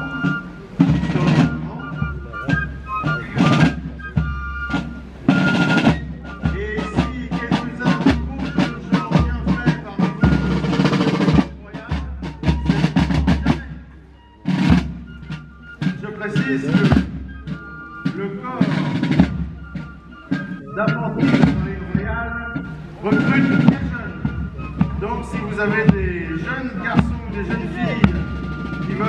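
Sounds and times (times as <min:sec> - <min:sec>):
marching side drums: 0:00.0 - 0:29.0.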